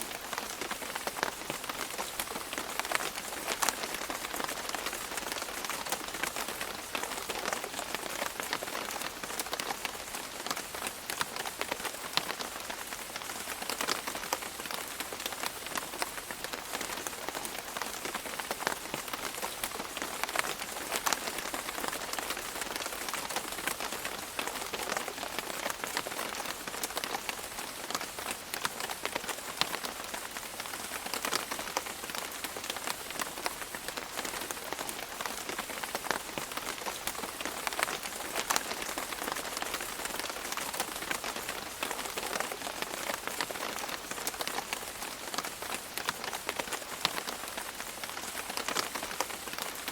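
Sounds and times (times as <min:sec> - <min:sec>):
rain falling: 0:00.0 - 0:49.9
raindrops ticking and splashing: 0:00.0 - 0:49.9.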